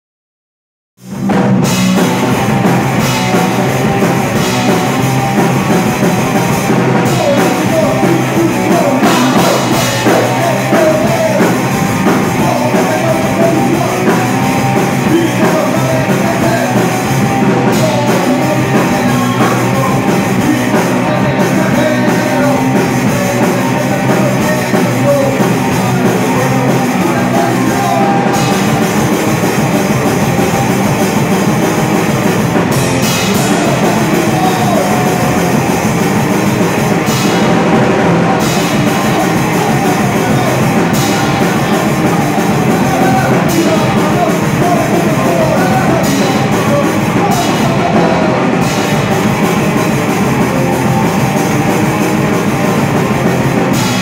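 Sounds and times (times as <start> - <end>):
bass guitar: 1.0 - 54.0
distorted electric guitars: 1.0 - 54.0
drum kit with cymbals: 1.0 - 54.0
person singing: 3.2 - 32.2, 33.0 - 54.0.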